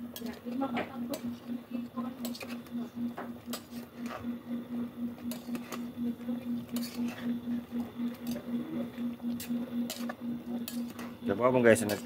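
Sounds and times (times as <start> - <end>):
pulsing low hum: 0.0 - 12.0.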